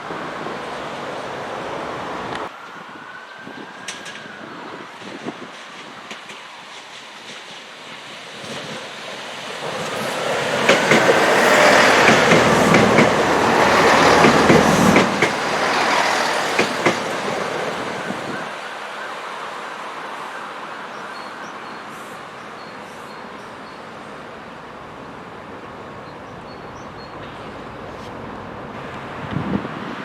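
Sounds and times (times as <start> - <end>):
train passing: 4.9 - 29.2.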